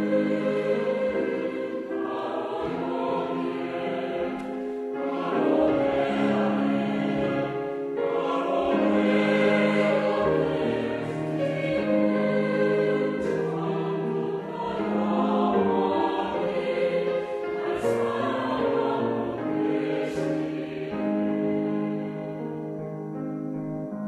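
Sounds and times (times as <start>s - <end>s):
choir singing: 0.0s - 22.6s
piano accompaniment: 0.0s - 24.0s.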